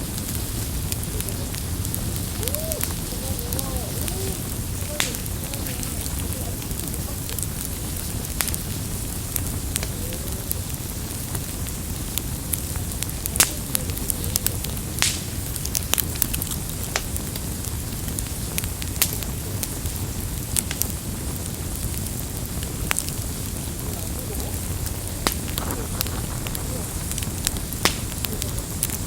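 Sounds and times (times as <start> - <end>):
burning wood popping: 0.0 - 29.0
low rumble of flames: 0.0 - 29.0.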